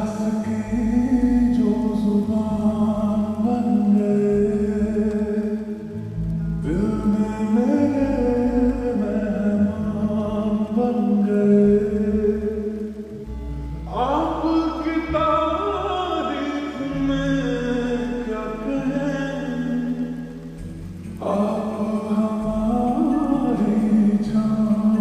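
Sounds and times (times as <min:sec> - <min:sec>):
person singing: 0:00.0 - 0:25.0
sustained bass notes: 0:00.0 - 0:25.0.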